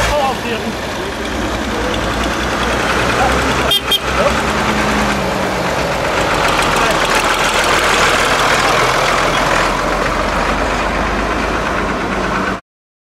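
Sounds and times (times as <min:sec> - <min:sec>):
tractor diesel engine passing: 0:00.0 - 0:12.6.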